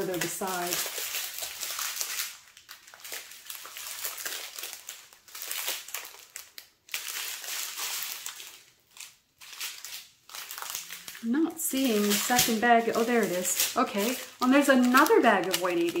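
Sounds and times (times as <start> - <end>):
thin plastic crinkling: 0.0 - 16.0.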